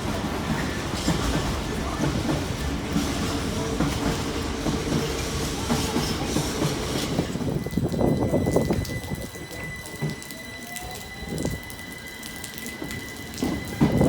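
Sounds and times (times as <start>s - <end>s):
freight train passing: 0.0s - 14.0s.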